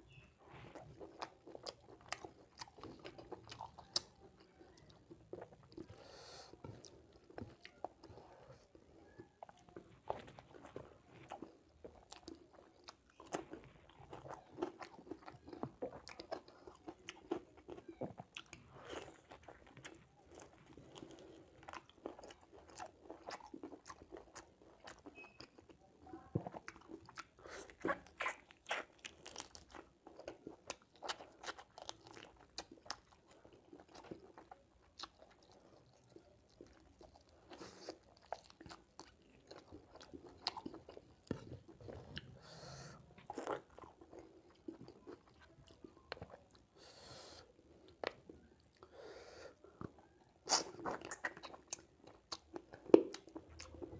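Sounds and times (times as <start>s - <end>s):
man chewing food: 0.1s - 53.9s.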